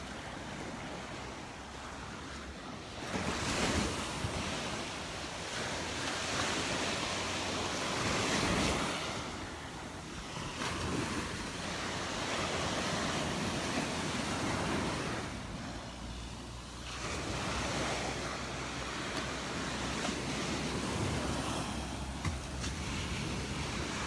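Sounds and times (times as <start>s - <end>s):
surf washing onto beach: 0.0s - 24.0s
wind on microphone: 0.0s - 24.0s.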